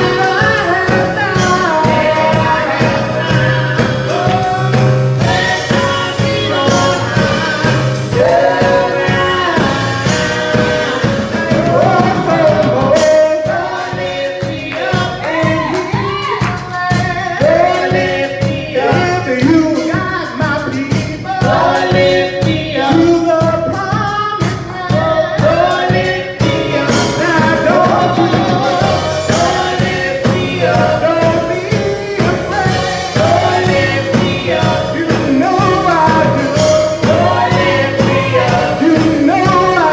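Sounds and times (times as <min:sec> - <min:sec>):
band accompaniment with steady beat: 0:00.0 - 0:39.9
praise team singing gospel song: 0:00.0 - 0:39.9.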